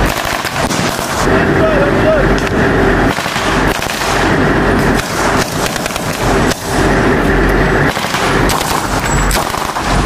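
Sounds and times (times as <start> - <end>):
loud rushing noise: 0.0 - 10.0.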